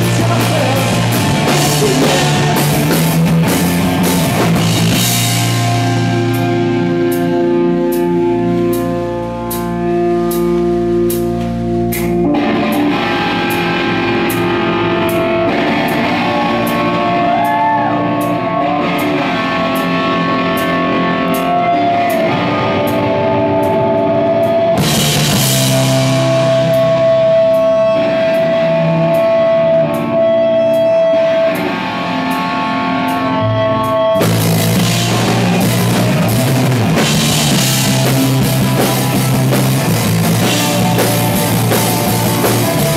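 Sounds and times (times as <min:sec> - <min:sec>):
live rock band: 0:00.0 - 0:42.9.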